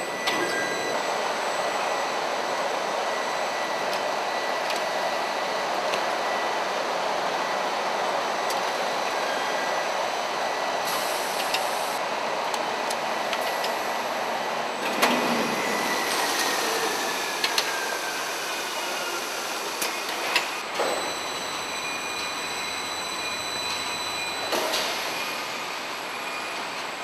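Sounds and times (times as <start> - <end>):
machine whir and hiss: 0.0 - 27.0.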